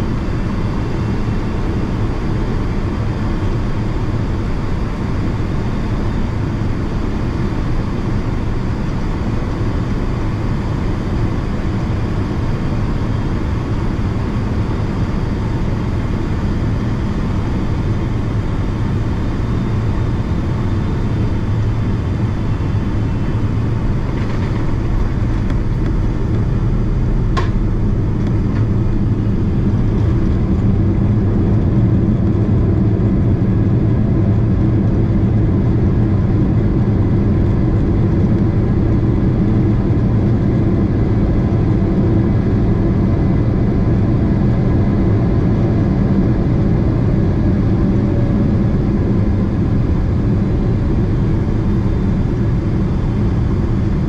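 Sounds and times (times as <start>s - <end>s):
jet engine rumble and rushing air: 0.0s - 54.0s.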